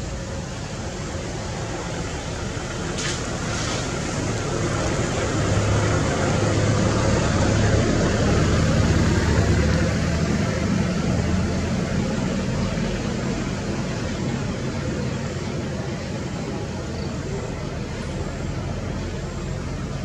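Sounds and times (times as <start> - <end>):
steady background hiss: 0.0 - 20.0
vehicle engine hum: 0.0 - 20.0.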